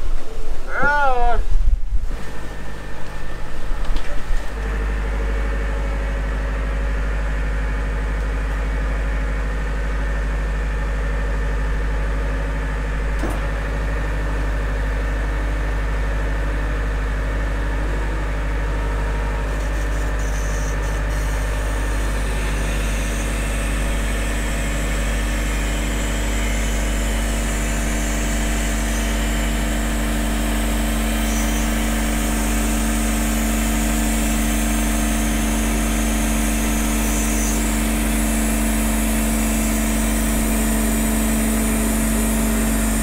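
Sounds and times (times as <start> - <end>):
generator engine hum: 0.0 - 43.0
wind: 0.0 - 43.0.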